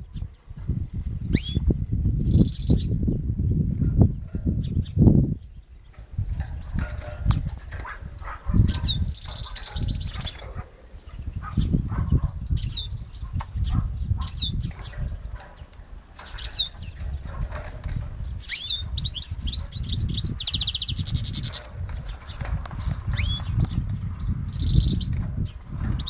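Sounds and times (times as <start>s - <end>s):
bird singing chirps and trills: 0.0s - 26.0s.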